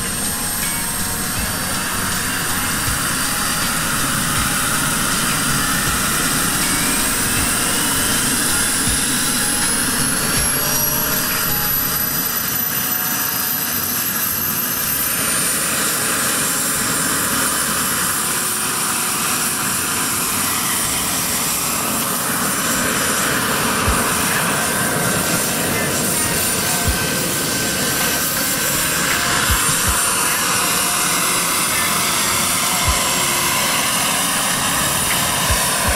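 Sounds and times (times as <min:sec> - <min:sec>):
model helicopter engine and rotor: 0:00.0 - 0:35.9
thin whine rising in pitch: 0:00.0 - 0:35.9.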